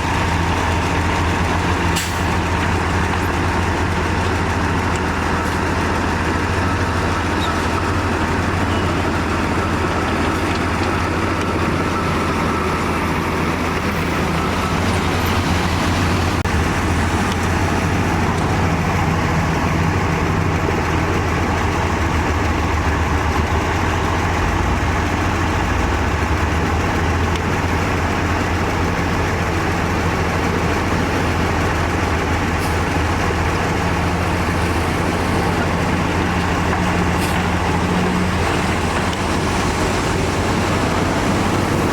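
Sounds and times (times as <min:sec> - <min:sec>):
heavy diesel machinery droning: 0:00.0 - 0:41.9.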